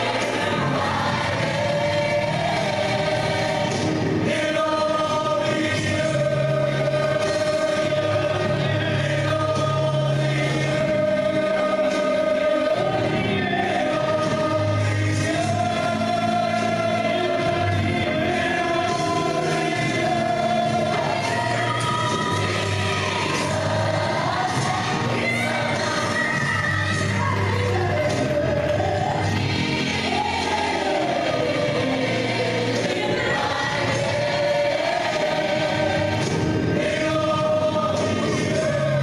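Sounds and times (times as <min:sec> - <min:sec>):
choir singing gospel: 0:00.0 - 0:39.0
instrumental backing with bass: 0:00.0 - 0:39.0.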